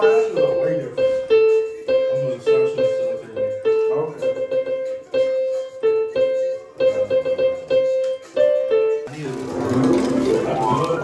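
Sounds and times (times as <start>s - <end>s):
keyboard playing simple melody: 0.0s - 11.0s.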